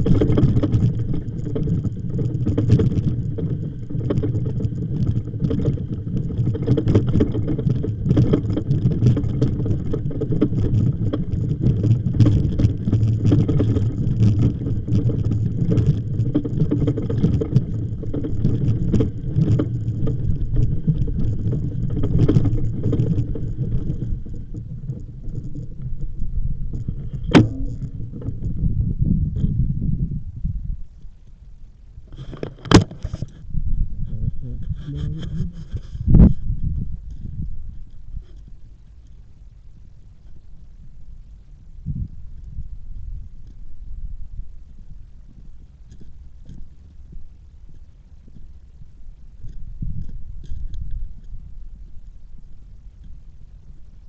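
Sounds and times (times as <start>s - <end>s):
bicycle rattling over rough ground: 0.0s - 29.9s, 32.0s - 54.0s.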